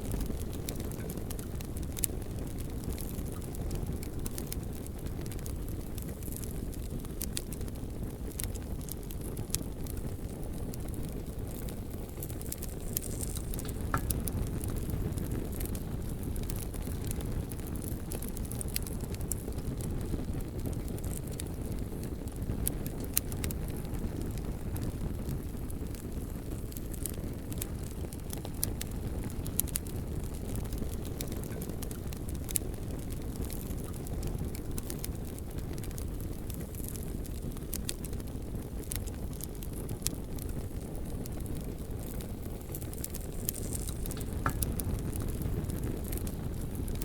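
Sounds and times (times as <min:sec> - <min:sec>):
bonfire crackling: 0:00.0 - 0:47.0.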